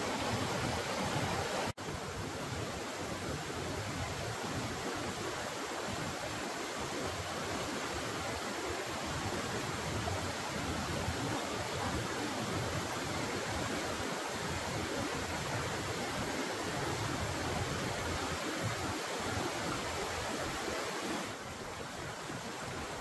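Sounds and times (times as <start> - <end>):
water rushing over stones: 0.0 - 23.0.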